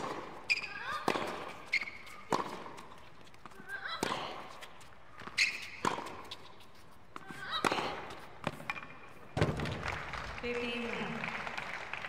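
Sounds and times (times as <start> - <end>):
tennis ball hits and bounces: 0.0 - 10.0.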